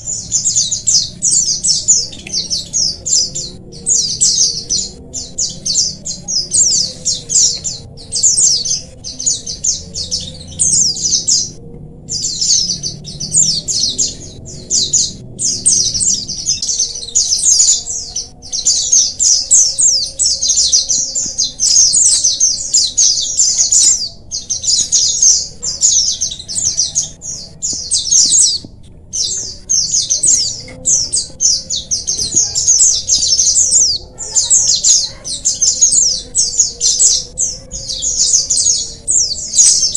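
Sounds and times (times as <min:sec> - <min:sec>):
birds twittering and trilling: 0:00.0 - 0:39.9.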